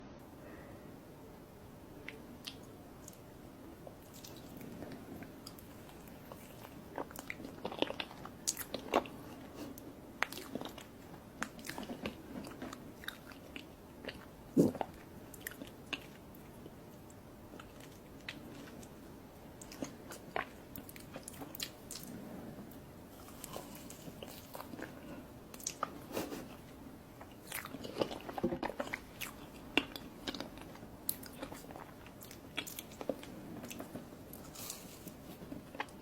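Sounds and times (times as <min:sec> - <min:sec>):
person chewing cake: 0:02.1 - 0:36.0.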